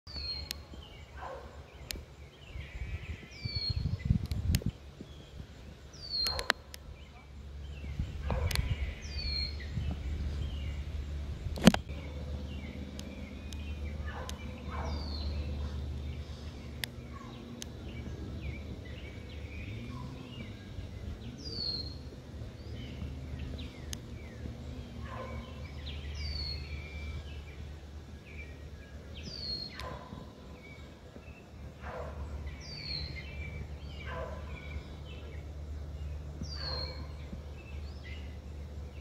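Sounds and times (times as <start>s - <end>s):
low background rumble: 0.1s - 39.0s
small birds chirping: 0.1s - 39.0s.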